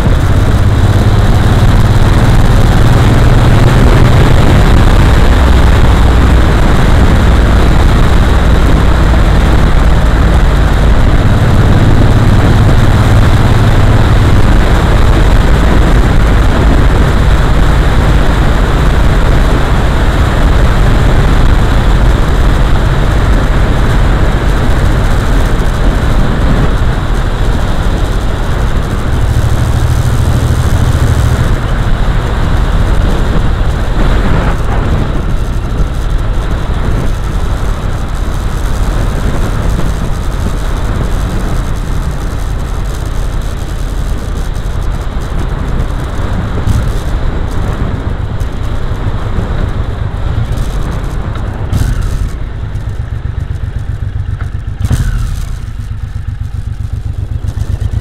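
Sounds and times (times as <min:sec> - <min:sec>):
heavy wind rush: 0:00.0 - 0:58.0
motorcycle engine drone: 0:00.0 - 0:58.0.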